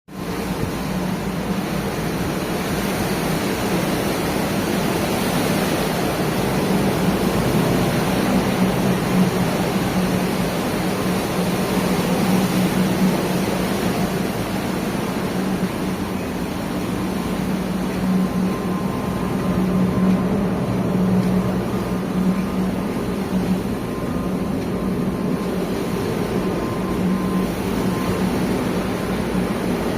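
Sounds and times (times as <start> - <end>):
ship machinery droning: 0.1 - 29.9.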